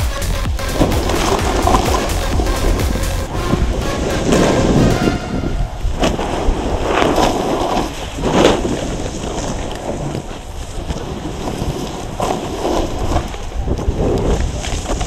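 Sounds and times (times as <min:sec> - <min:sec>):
snowboard sliding across snow: 0:00.7 - 0:15.0
wind over the microphone: 0:02.7 - 0:15.0.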